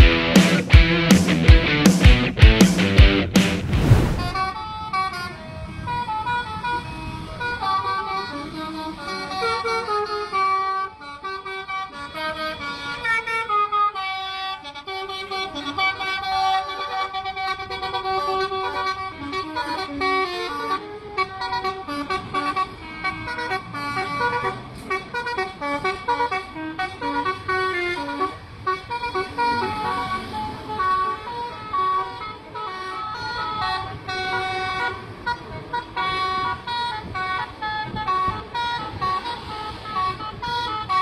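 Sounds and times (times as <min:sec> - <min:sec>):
bus air horns playing tunes: 0:04.3 - 0:41.0.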